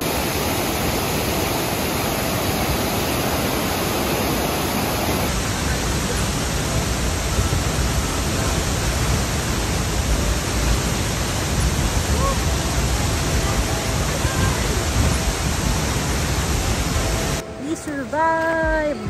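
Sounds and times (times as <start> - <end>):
powerful waterfall: 0.0 - 17.6
stream rushing over boulders: 0.0 - 18.5.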